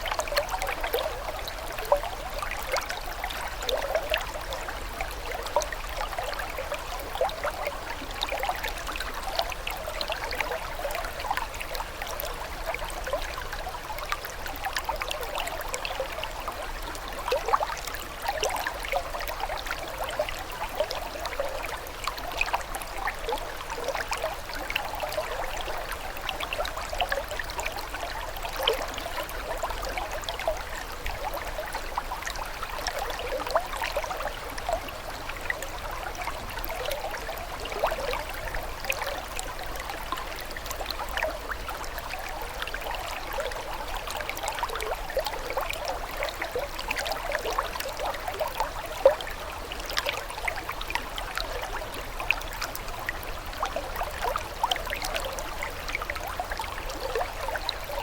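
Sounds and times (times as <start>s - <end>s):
water trickling and gurgling: 0.0s - 58.0s.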